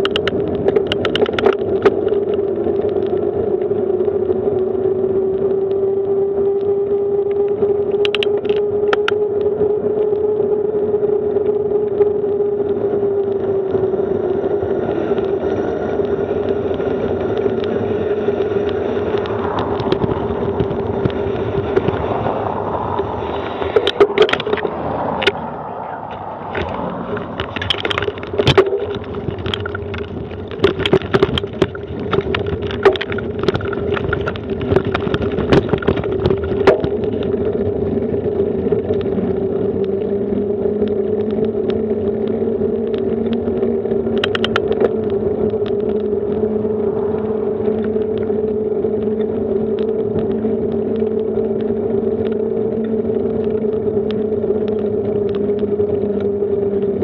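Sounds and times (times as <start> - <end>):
bicycle rolling on road: 0.0 - 57.0
bike rattling over cobblestones: 0.0 - 57.0.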